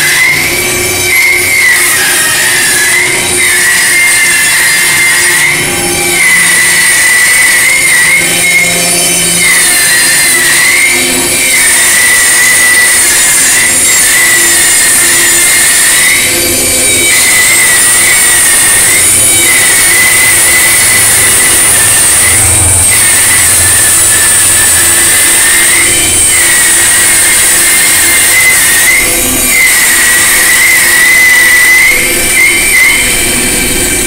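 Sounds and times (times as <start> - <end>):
band saw cutting wood: 0.0 - 34.0.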